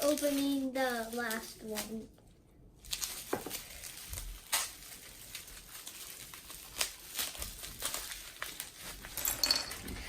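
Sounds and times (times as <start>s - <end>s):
plastic clicks and crinkles: 0.0s - 2.1s, 2.8s - 10.0s.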